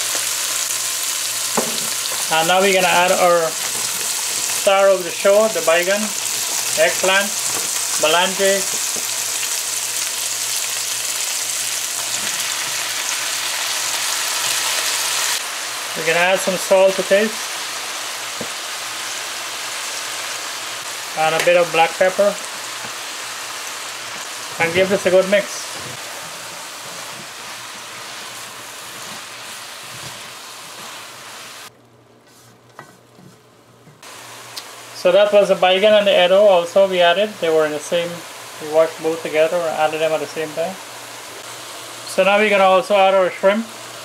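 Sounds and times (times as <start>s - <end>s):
oil sizzling in frying pan: 0.0s - 31.7s, 34.0s - 44.0s.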